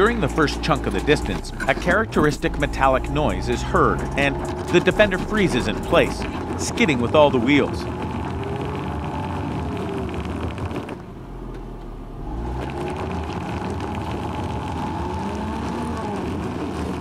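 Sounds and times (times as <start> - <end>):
wheels skidding on rock: 0.0 - 11.2, 12.2 - 17.0
rattling clatter: 0.0 - 17.0
suv engine revving: 0.0 - 17.0.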